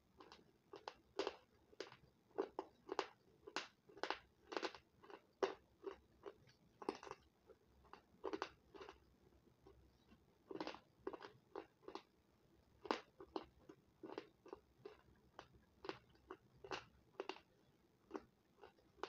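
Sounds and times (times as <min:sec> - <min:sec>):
person chewing crunchy food: 0:00.1 - 0:19.0.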